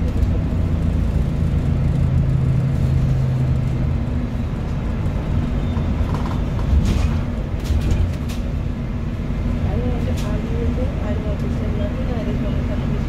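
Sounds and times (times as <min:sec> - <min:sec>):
bus drivetrain and road rumble: 0:00.0 - 0:13.0.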